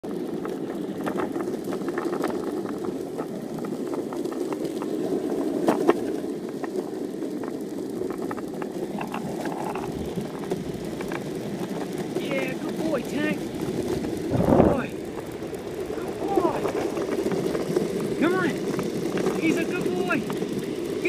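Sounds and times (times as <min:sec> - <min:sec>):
longboard wheels rolling on asphalt: 0:00.0 - 0:21.0.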